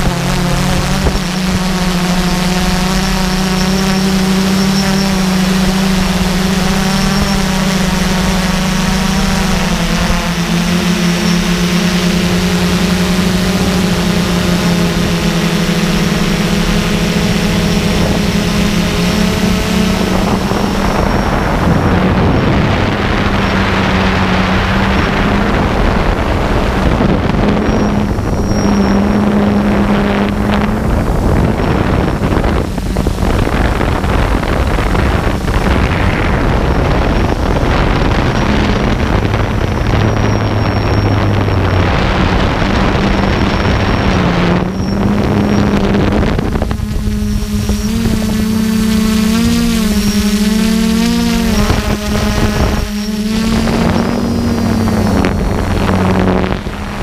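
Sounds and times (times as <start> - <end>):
drone motors humming and whining: 0.0 - 57.0
rushing wind noise: 0.0 - 57.0.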